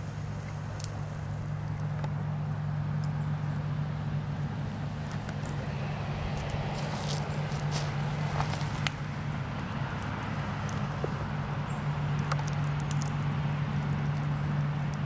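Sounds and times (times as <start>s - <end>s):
steady low hum: 0.0s - 15.0s
wood fire crackling: 0.0s - 15.0s.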